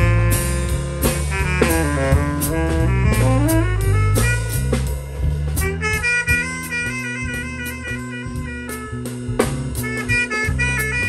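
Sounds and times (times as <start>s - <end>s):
drum kit with cymbals: 0.0s - 11.0s
jazz saxophone: 0.0s - 11.0s
low bass notes: 0.0s - 11.0s.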